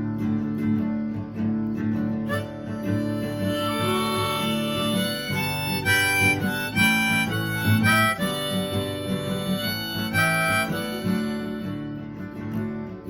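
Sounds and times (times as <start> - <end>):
strummed acoustic guitar: 0.0 - 13.0
harmonica playing: 2.2 - 13.0.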